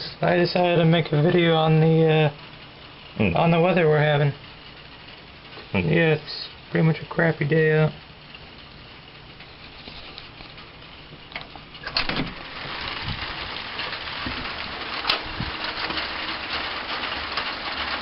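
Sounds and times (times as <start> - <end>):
rain hissing: 0.0 - 18.0.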